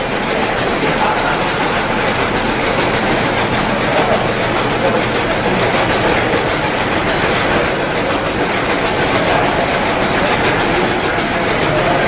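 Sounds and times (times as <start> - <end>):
stationary engine clattering: 0.0 - 12.0.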